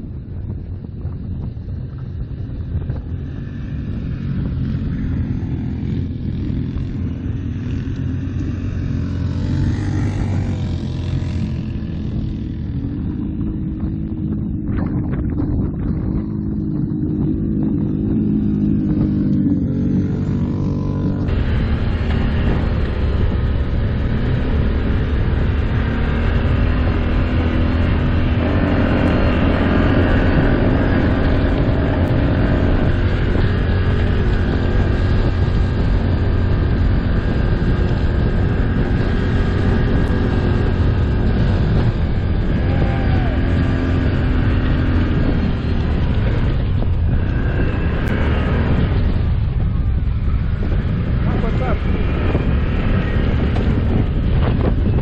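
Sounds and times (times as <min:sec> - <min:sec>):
atv engine running under load: 0:00.0 - 0:55.0.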